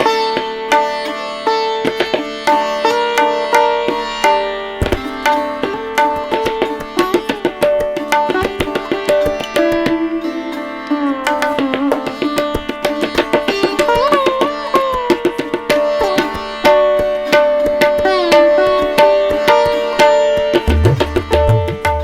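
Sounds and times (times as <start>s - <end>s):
plucked sliding melody: 1.5s - 22.0s.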